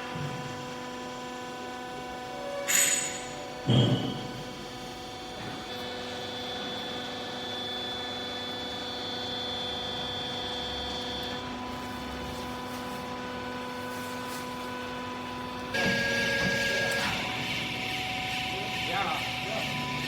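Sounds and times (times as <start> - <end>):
hydraulic pump humming: 0.0 - 20.0.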